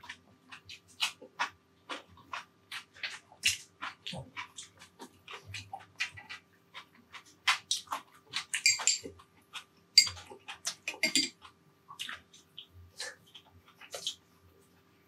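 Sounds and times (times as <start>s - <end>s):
person chewing and lip-smacking: 0.0s - 14.3s.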